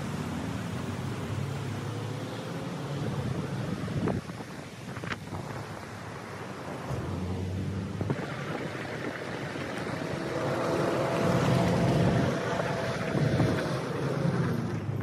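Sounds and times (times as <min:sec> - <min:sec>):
road noise on rough road: 0:00.0 - 0:15.0
vehicle engine: 0:00.0 - 0:15.0
wind buffeting microphone: 0:02.8 - 0:15.0.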